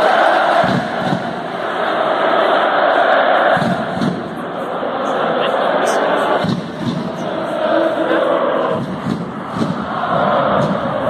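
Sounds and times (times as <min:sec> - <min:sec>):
stadium crowd chanting and singing: 0:00.0 - 0:11.0.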